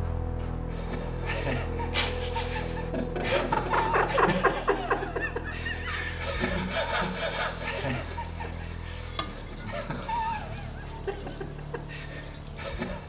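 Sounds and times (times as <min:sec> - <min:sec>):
low music drone: 0:00.0 - 0:13.0
person chuckling: 0:00.7 - 0:13.0.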